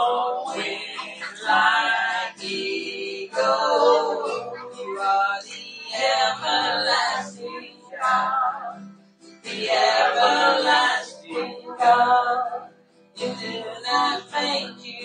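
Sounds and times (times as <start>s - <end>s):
person singing: 0.0s - 8.8s, 9.4s - 15.0s.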